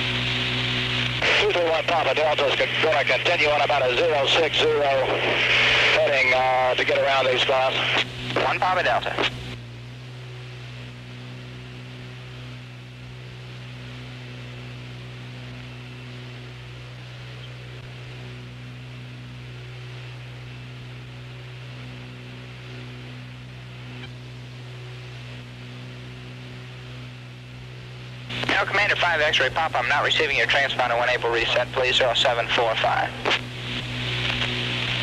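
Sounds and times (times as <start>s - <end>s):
low radio hum with hiss: 0.0s - 35.0s.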